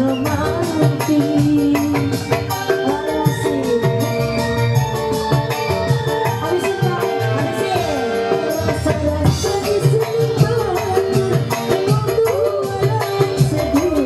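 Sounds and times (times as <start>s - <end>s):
electronic keyboard: 0.0s - 14.0s
hand drums beat: 0.0s - 14.0s
woman singing into microphone: 0.0s - 14.0s.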